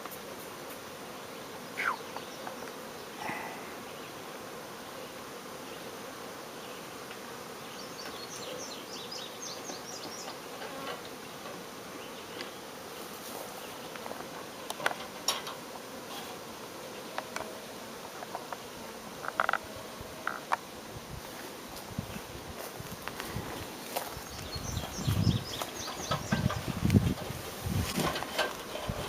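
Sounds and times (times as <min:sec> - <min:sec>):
bee swarm buzzing: 0:00.0 - 0:29.0.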